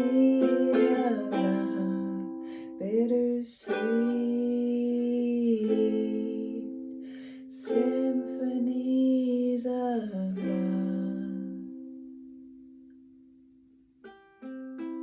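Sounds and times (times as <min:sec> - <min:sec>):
ukulele chords: 0:00.0 - 0:15.0.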